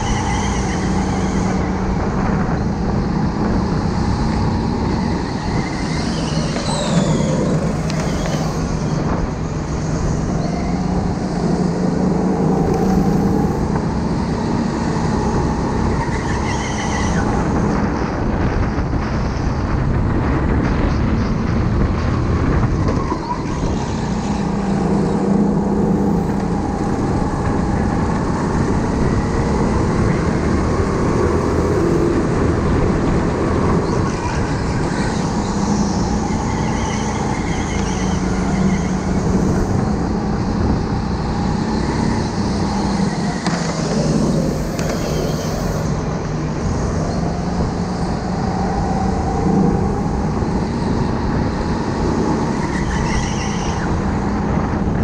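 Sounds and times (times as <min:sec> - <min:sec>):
go-kart engine: 0:00.0 - 0:55.0.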